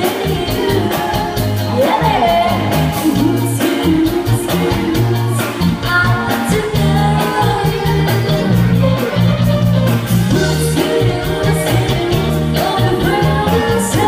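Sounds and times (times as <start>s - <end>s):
woman singing: 0.0s - 9.3s, 10.3s - 14.0s
bass line and beat: 0.0s - 14.0s
electric guitar: 0.0s - 14.0s.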